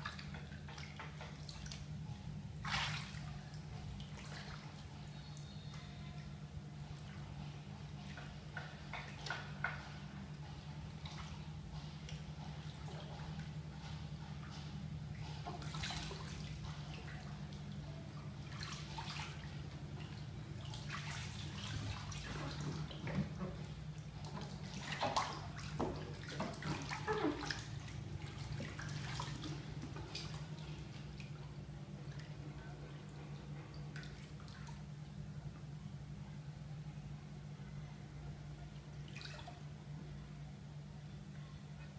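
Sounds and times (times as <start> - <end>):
bathwater sloshing and splashing: 0.0 - 35.8, 38.7 - 40.1.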